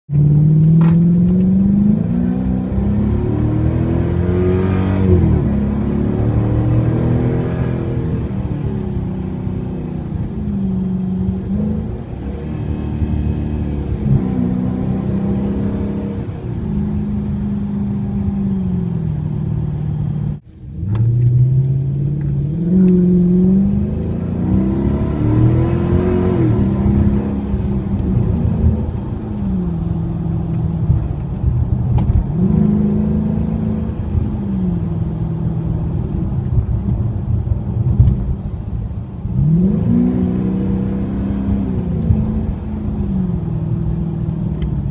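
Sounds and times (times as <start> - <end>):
car engine revving: 0.1 - 44.9.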